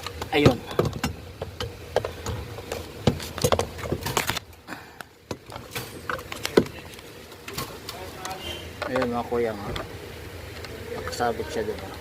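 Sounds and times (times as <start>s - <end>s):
parts clicking and knocking: 0.0s - 11.9s.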